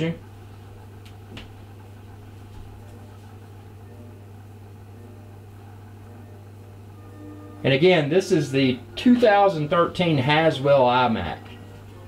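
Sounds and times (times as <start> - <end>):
computer equipment humming: 0.0 - 12.0.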